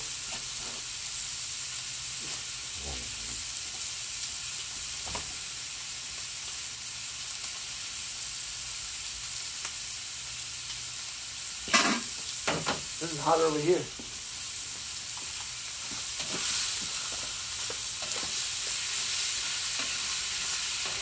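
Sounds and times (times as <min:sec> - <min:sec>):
steaks sizzling on a griddle: 0:00.0 - 0:21.0.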